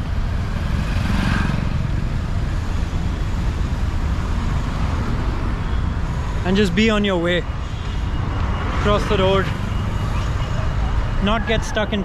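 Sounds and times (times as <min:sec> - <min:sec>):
steady low traffic rumble: 0:00.0 - 0:12.0
vehicles passing: 0:00.0 - 0:12.0.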